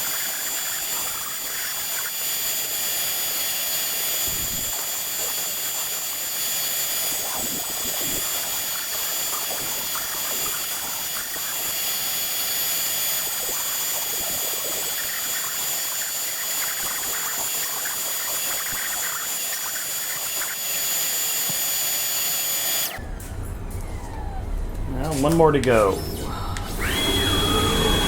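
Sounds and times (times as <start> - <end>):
router spindle whine: 0.0 - 28.0.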